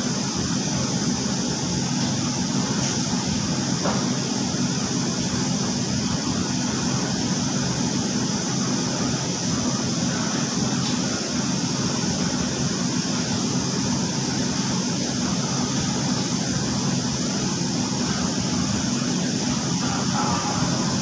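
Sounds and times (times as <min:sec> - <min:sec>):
machinery hum and rush: 0:00.0 - 0:21.0.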